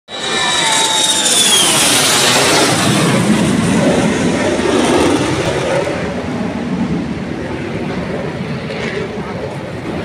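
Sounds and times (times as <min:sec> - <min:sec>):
fighter jets roaring overhead: 0:00.1 - 0:10.0.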